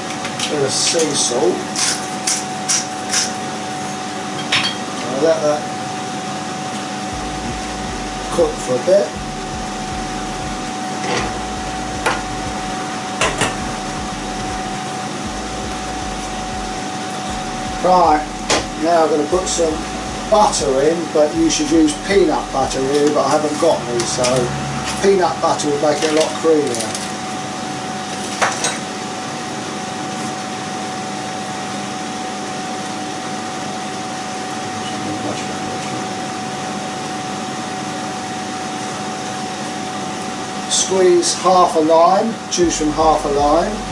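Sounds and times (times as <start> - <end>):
fan whirring hum: 0.0 - 43.9.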